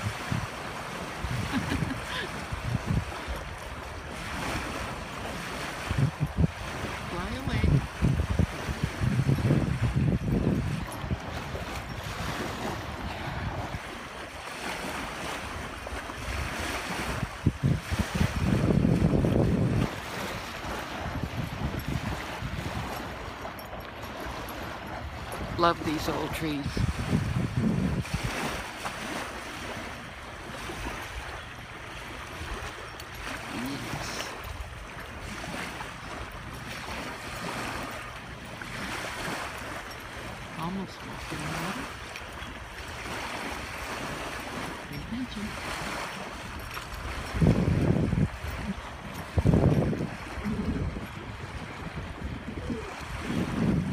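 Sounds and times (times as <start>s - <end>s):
waves lapping on shore: 0.0s - 53.9s
wind buffeting microphone: 0.0s - 53.9s.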